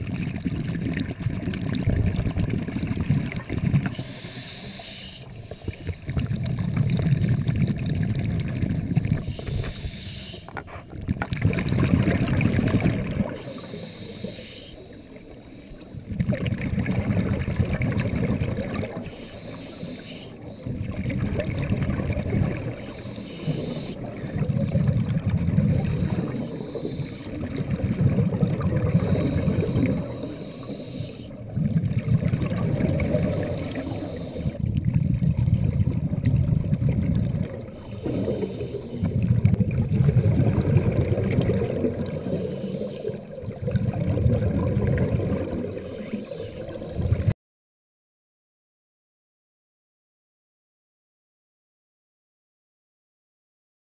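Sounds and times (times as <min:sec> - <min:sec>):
diver exhaling bubbles underwater: 0:00.0 - 0:04.7, 0:05.6 - 0:10.0, 0:10.7 - 0:14.3, 0:15.5 - 0:47.3.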